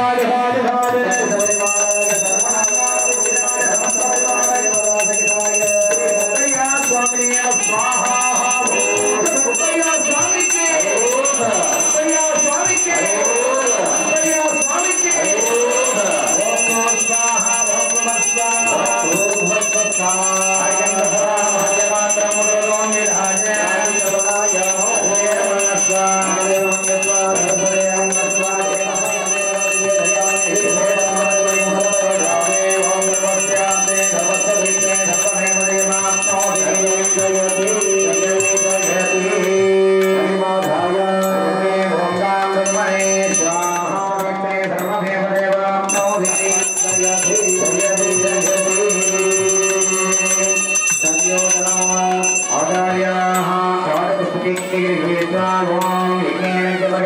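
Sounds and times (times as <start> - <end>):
bell ringing: 0.0 - 57.0.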